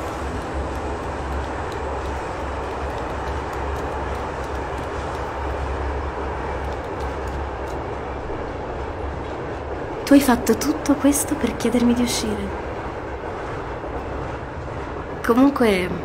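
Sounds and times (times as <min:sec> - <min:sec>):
moving train interior hiss and drone: 0:00.0 - 0:16.0.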